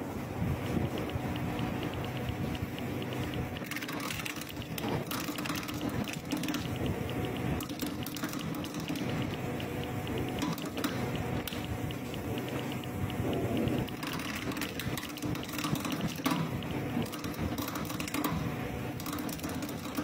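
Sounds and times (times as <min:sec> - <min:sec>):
coconut husking machine: 0:00.0 - 0:20.0
husk ticking and scraping: 0:00.6 - 0:20.0.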